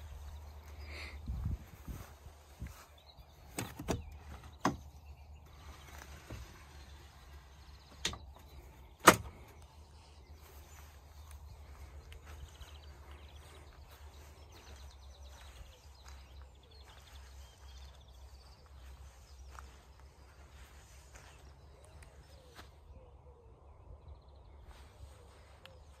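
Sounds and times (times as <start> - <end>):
wind rumbling on microphone: 0.0 - 21.1
birds chirping: 0.0 - 26.0.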